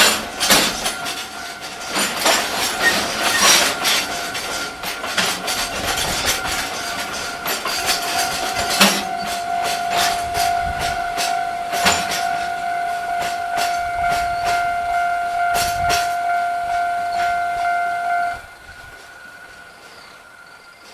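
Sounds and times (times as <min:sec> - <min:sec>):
train wheels clacking over rail joints: 0:00.0 - 0:20.9
steady high tone: 0:02.9 - 0:20.6.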